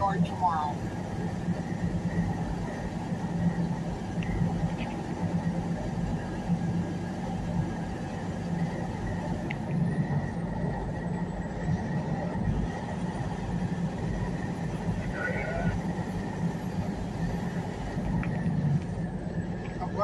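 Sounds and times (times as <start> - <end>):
diesel engine drone: 0.0 - 20.0
faint high whine: 0.0 - 20.0
road noise: 0.0 - 20.0.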